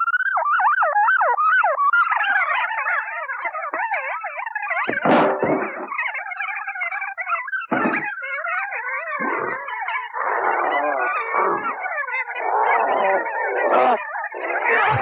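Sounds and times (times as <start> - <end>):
warbling croaking animal-like vocals: 1.1 - 15.0.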